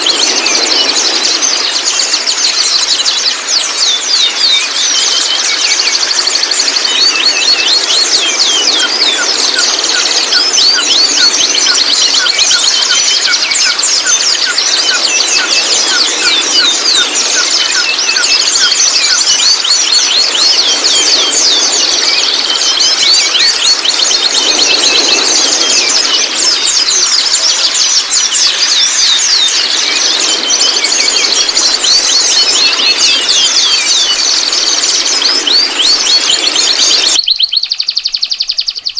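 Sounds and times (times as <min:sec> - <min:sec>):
young bird twittering: 0:00.0 - 0:38.9.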